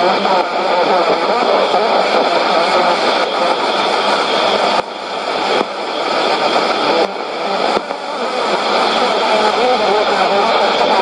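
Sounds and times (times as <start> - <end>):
garbled radio audio: 0.0 - 11.0
shortwave radio static: 0.0 - 11.0.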